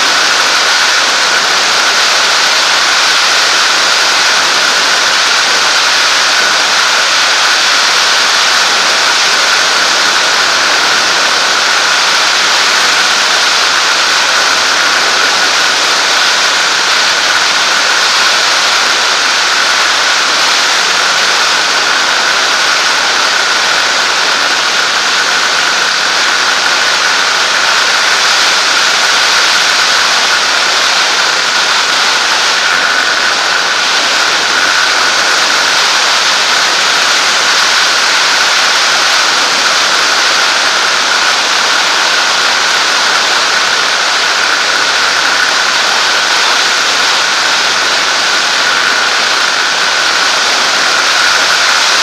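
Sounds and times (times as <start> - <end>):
aircraft engine and propeller drone: 0.0 - 52.0
airflow rushing: 0.0 - 52.0
constant high whine: 0.0 - 52.0.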